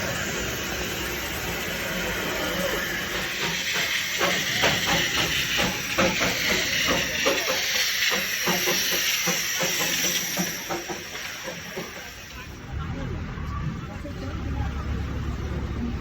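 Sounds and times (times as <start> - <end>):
locomotive chuffing: 0.0 - 16.0
steam locomotive hissing: 0.0 - 16.0.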